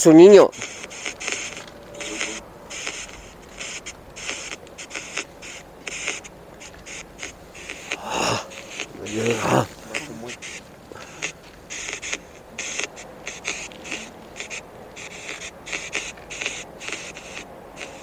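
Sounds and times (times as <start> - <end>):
static bursts from phone app: 0.3 - 18.0.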